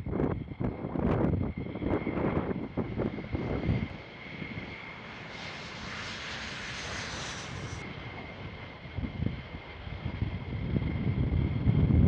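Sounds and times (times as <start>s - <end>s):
jet engines flying overhead: 0.0s - 12.0s
wind buffeting microphone: 0.0s - 12.0s.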